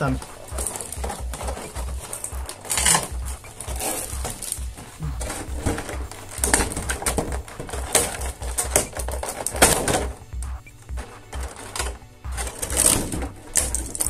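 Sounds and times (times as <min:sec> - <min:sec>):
low pulsing beat: 0:00.0 - 0:14.0.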